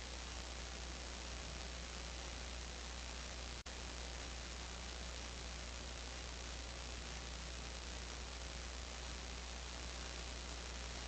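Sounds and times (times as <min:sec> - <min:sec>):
low even hum: 0:00.0 - 0:11.0
steady hiss: 0:00.0 - 0:11.0.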